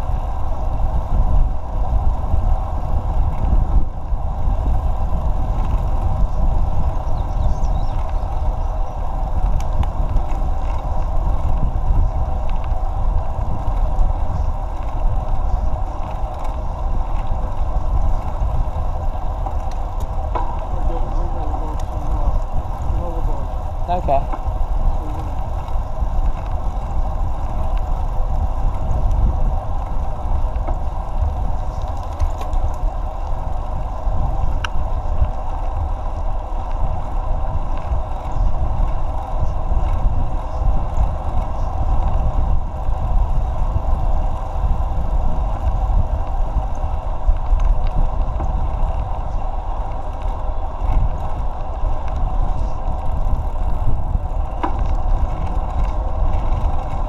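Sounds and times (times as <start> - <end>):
road rumble: 0.0 - 57.0
wind buffeting microphone: 0.0 - 57.0.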